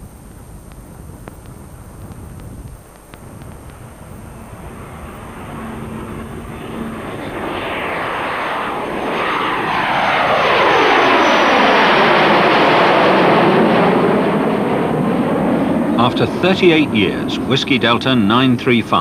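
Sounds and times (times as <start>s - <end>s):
jet engine flypast: 0.7s - 19.0s.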